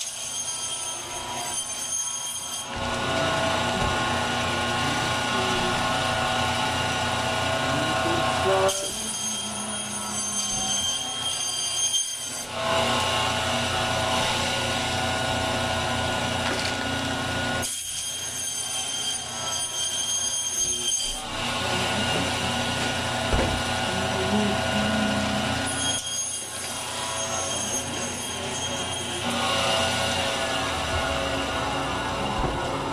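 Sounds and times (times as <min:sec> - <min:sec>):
band saw whining: 0:00.0 - 0:32.9.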